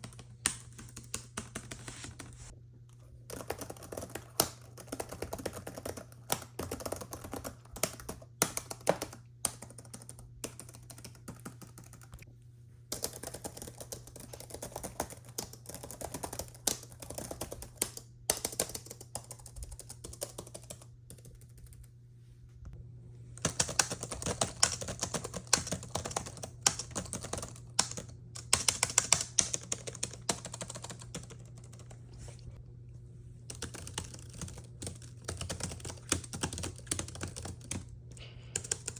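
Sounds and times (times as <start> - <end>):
typing on laptop keyboard: 0.0 - 2.3, 3.3 - 12.2, 12.9 - 21.8, 23.4 - 32.0, 33.5 - 38.0, 38.6 - 38.9
faint steady hum: 0.0 - 38.9.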